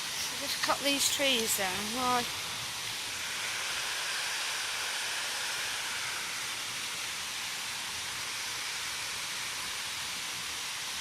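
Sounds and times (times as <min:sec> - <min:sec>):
river water running over stones: 0:00.0 - 0:11.0.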